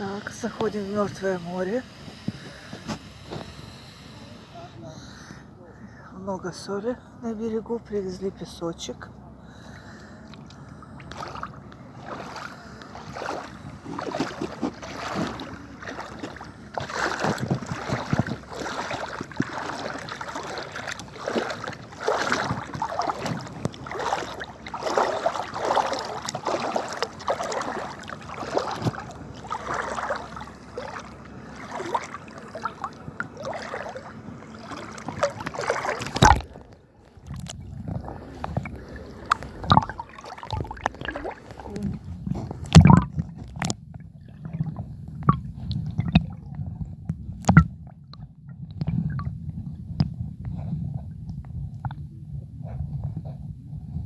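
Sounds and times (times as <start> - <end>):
water splashing and sloshing: 0.0 - 5.6, 6.2 - 52.0.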